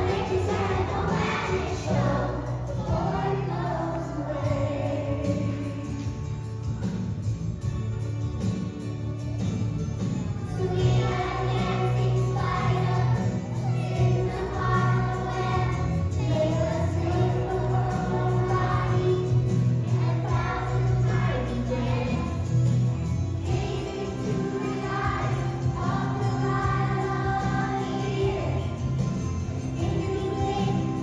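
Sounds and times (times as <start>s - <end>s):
voices singing: 0.0s - 6.2s, 10.5s - 31.0s.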